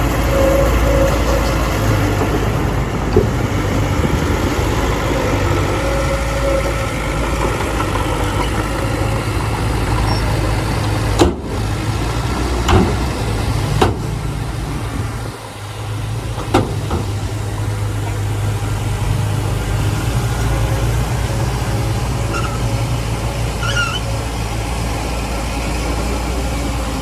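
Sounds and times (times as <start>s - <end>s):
diesel engine droning: 0.0s - 27.0s.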